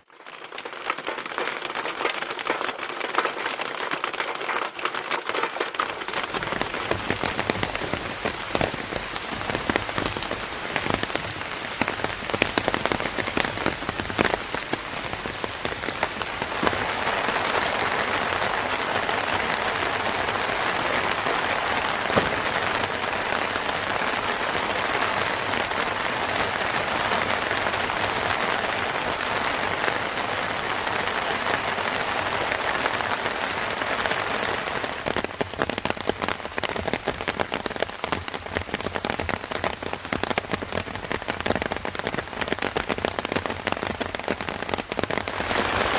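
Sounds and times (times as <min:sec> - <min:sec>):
rain pattering on a surface: 0:00.0 - 0:45.9.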